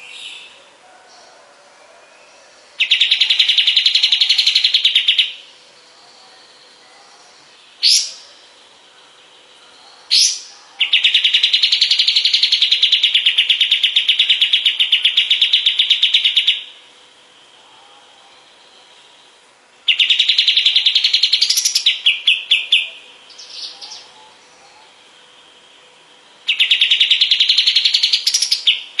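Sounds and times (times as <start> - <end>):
bird call and trill: 0.0 - 1.3, 1.9 - 29.0.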